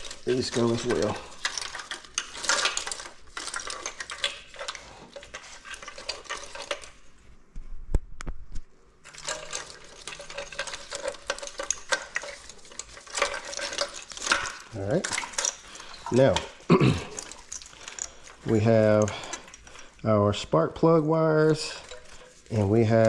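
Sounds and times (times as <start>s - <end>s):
wires and connectors rustling: 0.0s - 23.0s.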